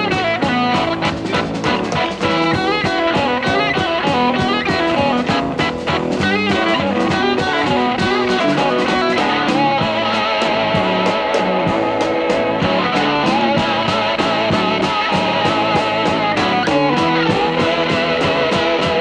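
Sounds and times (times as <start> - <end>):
slide guitar gliding lines: 0.0 - 19.0
steady drum beat: 0.0 - 19.0
sustained guitar notes: 0.0 - 19.0.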